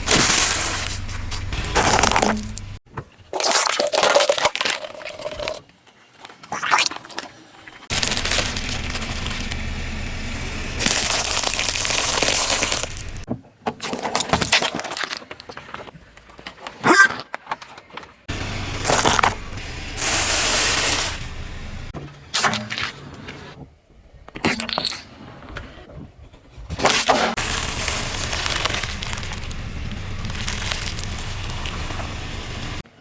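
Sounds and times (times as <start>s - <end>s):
objects crunching under car tyres: 0.0s - 5.6s, 7.9s - 23.6s, 24.3s - 32.8s.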